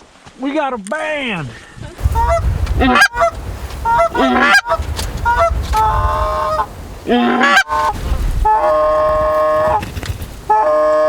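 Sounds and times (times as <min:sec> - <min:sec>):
geese honking: 0:02.0 - 0:11.0.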